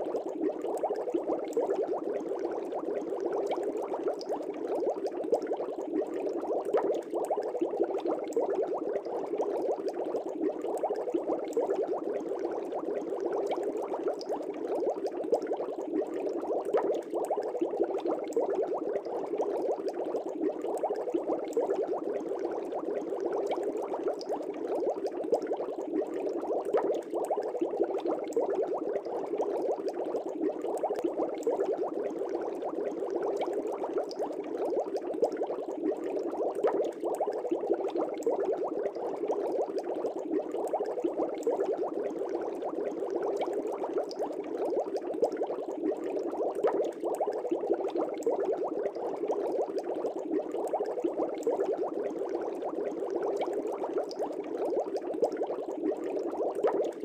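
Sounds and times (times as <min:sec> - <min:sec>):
air bubbles in fish tank water: 0:00.0 - 0:57.0.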